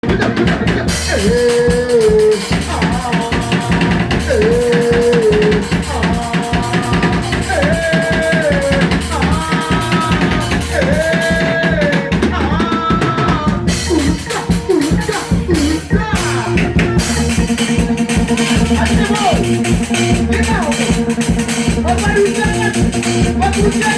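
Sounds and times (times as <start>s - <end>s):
drum kit beat: 0.0s - 23.9s.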